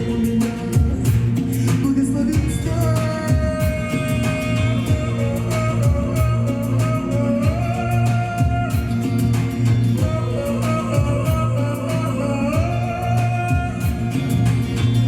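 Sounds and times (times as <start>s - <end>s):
woman singing in a low voice: 0.0s - 9.2s, 10.0s - 14.5s
instrumental accompaniment with bass: 0.0s - 15.0s.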